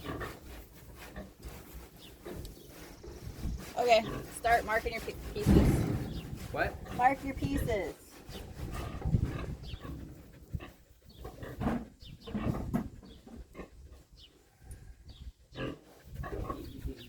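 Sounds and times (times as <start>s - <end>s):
pig grunting: 0.0s - 2.4s, 3.0s - 14.0s, 15.5s - 17.0s.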